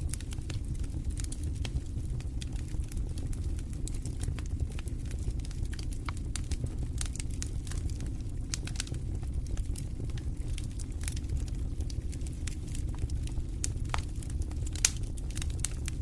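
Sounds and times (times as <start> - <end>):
sharp pops and snaps from fire: 0.0 - 16.0
wood fire crackling: 0.0 - 16.0.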